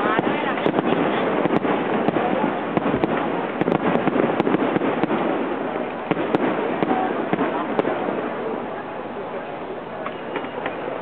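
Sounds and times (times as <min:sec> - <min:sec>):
continuous noisy din: 0:00.0 - 0:11.0
fireworks bangs: 0:00.0 - 0:11.0.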